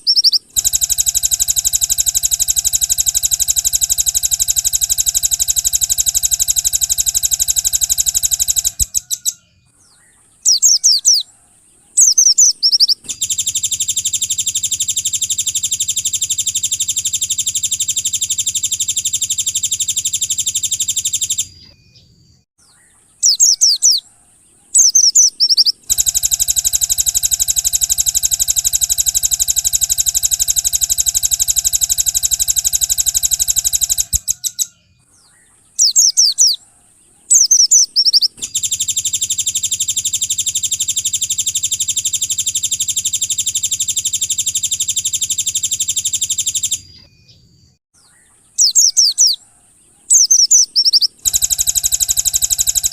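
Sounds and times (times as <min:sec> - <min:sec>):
songbird buzzing trills: 0:00.0 - 0:09.4, 0:12.0 - 0:21.5, 0:23.2 - 0:34.7, 0:35.8 - 0:47.0, 0:48.6 - 0:52.9
quick down-slurred bird chirps: 0:00.0 - 0:52.9.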